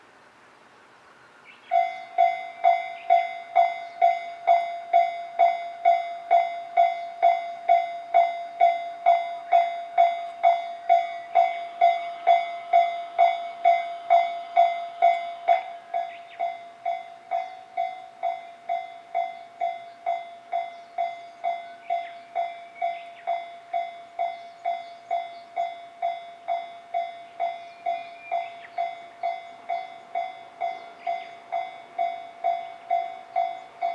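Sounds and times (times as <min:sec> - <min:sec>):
level-crossing warning bell ringing: 0:01.7 - 0:33.9.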